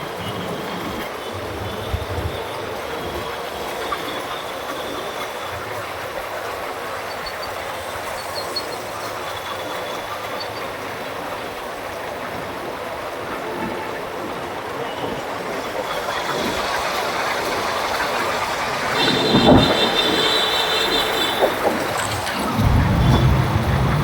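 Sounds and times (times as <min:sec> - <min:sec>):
wind and road noise: 0:00.0 - 0:24.0.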